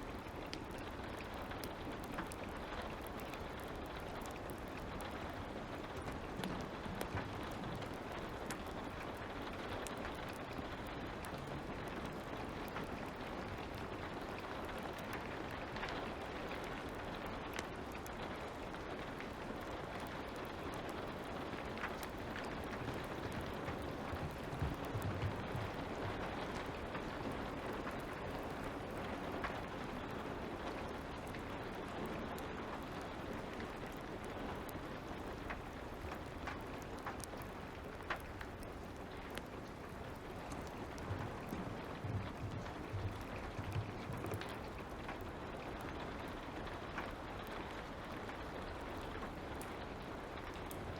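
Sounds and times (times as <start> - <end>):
fire crackling: 0.0 - 50.9
light rain patter: 0.0 - 50.9.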